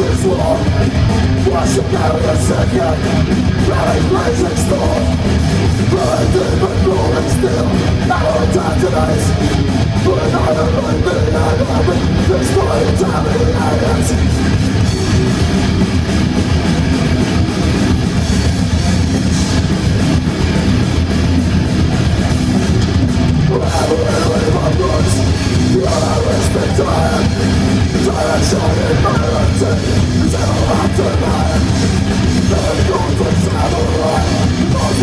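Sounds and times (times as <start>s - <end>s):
death metal band playing live: 0.0s - 35.0s.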